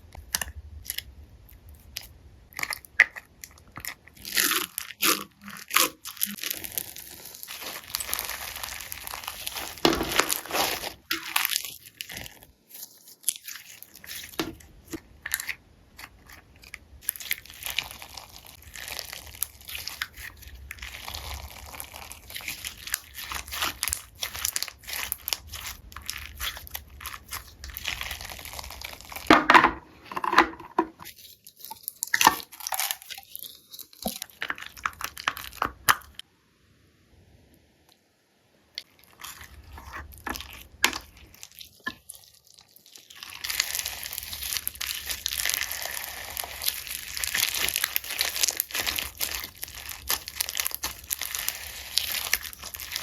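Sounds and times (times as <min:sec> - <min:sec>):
slime crackling and popping: 0:00.1 - 0:29.4, 0:31.3 - 0:36.2, 0:38.8 - 0:53.0.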